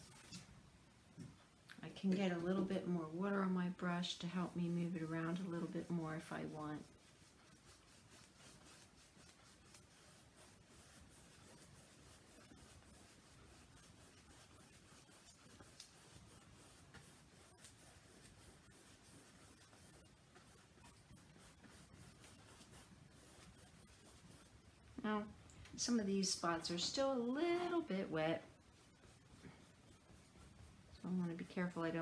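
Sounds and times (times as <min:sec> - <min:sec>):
paintbrush strokes on canvas: 0:00.0 - 0:00.5, 0:01.9 - 0:32.0.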